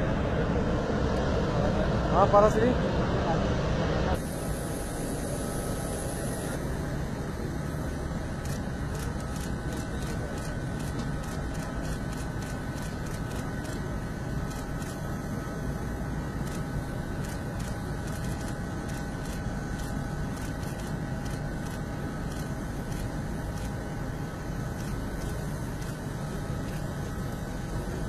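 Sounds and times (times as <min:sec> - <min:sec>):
jet turbine rumble and whine: 0:00.0 - 0:28.0.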